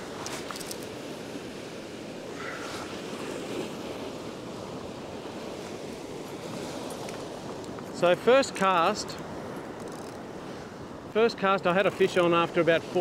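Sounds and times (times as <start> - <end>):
surf washing over rocks: 0.0 - 13.0.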